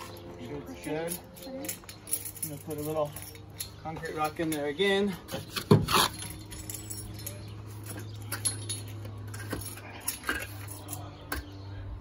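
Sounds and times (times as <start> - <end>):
light metallic clinks: 0.0 - 5.1, 5.9 - 11.8.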